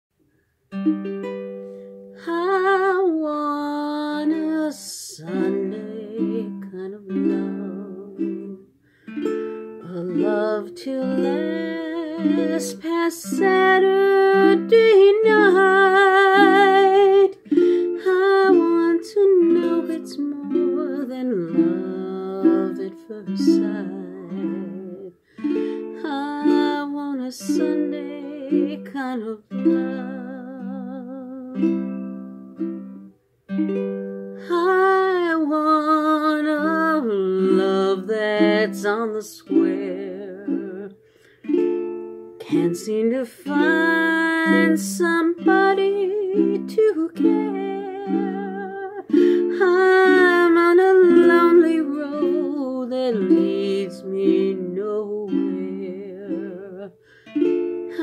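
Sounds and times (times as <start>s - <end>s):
ukulele playing slow chords: 0.7s - 3.0s, 5.2s - 35.1s, 36.6s - 42.8s, 43.4s - 58.0s
woman singing a ballad: 2.2s - 8.7s, 9.8s - 31.8s, 34.4s - 41.0s, 42.4s - 57.0s.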